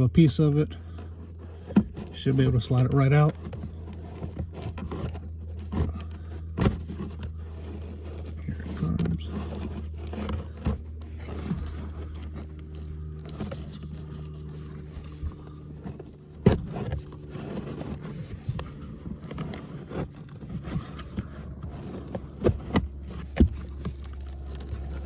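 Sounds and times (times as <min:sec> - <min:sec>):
steady low hum: 0:00.0 - 0:25.0
filter scraping against plastic housing: 0:00.5 - 0:25.0.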